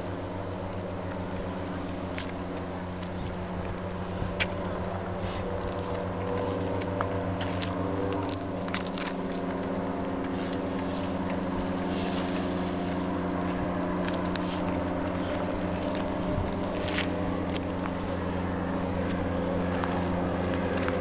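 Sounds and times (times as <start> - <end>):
low engine-like hum: 0.0 - 21.0.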